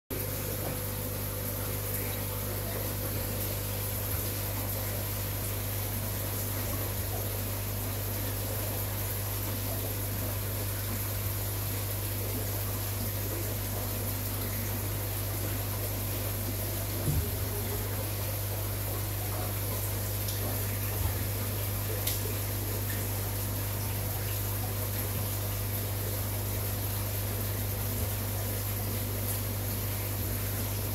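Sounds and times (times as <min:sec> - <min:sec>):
aeration bubbling: 0:00.1 - 0:30.9
water pump humming: 0:00.1 - 0:30.9.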